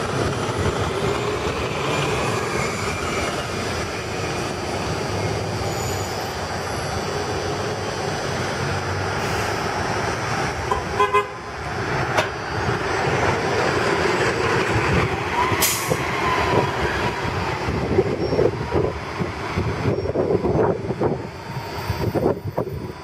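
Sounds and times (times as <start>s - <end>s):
bus engine driving past: 0.0s - 23.0s
road noise: 0.0s - 23.0s.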